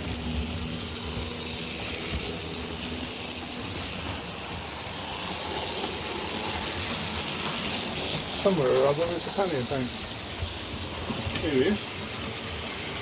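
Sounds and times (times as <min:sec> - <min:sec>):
faint motor hum: 0:00.0 - 0:13.0
small wheels rolling on rails: 0:00.0 - 0:13.0.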